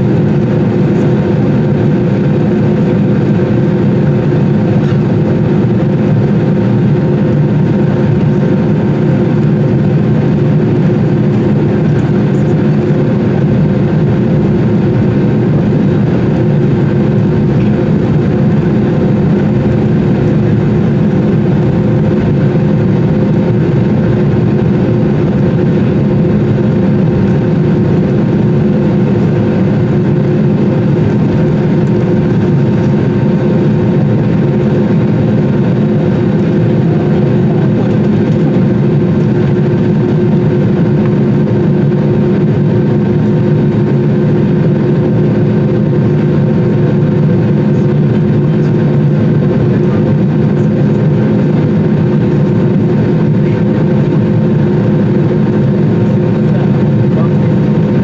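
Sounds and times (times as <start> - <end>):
airplane cabin engine hum: 0.0 - 58.0.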